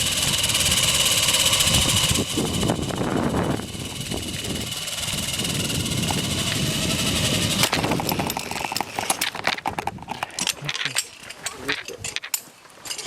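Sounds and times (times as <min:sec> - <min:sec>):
wind buffeting microphone: 0:00.0 - 0:10.7
zipline trolley whirring on cable: 0:00.0 - 0:11.2
rattling: 0:00.0 - 0:13.0.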